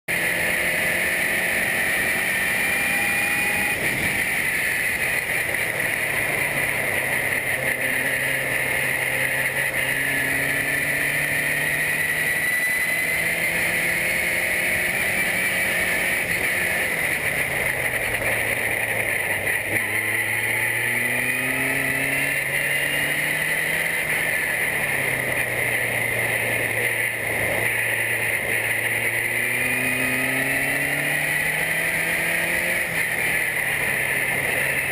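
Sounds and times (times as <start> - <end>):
race car engine accelerating: 0.1 - 34.9.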